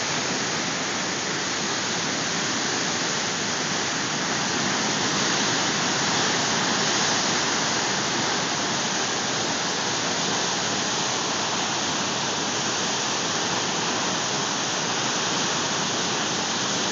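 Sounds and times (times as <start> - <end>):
whitewater rushing: 0.0 - 16.9.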